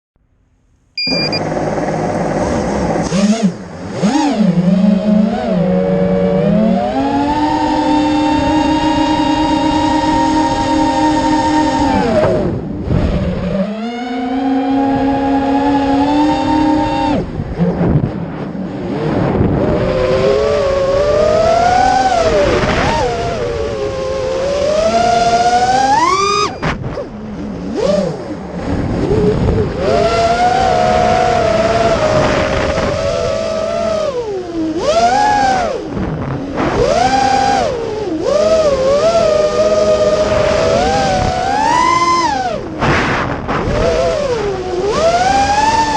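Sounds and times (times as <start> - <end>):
engine revving: 1.0 - 45.9.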